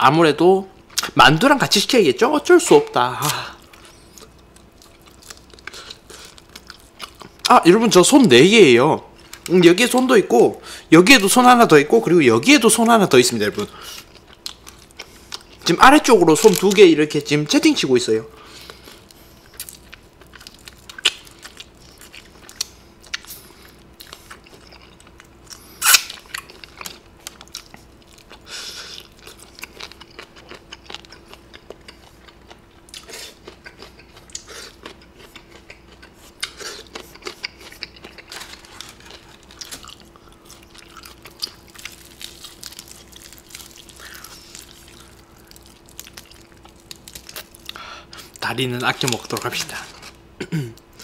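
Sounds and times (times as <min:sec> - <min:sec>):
faint steady hum: 0:00.0 - 0:51.0
chewing crispy fried chicken: 0:03.2 - 0:07.6, 0:12.8 - 0:16.9, 0:18.4 - 0:51.0.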